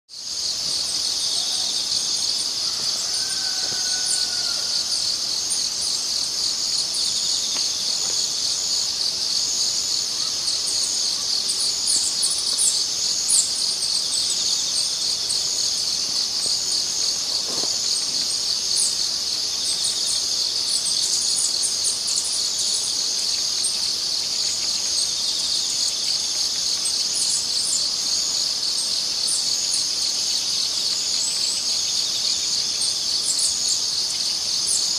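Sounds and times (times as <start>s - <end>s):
trilling insects: 0.1s - 34.9s.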